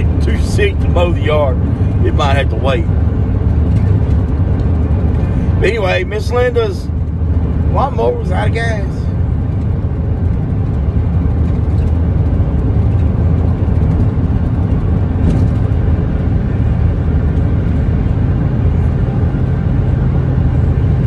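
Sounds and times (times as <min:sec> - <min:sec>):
road rumble: 0:00.0 - 0:21.0
truck engine running: 0:00.0 - 0:21.0.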